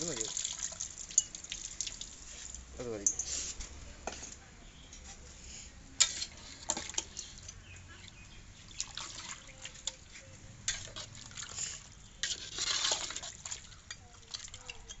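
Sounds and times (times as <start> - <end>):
curry sloshing in a pot: 0.0 - 3.2, 6.0 - 15.0.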